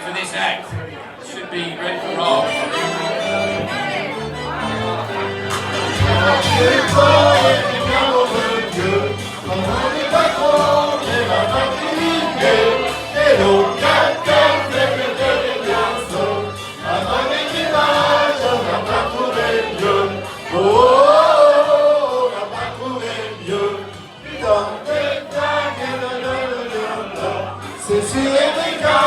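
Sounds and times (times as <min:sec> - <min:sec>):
group of voices singing: 0:01.4 - 0:29.0
backing music with bass line: 0:02.4 - 0:29.0.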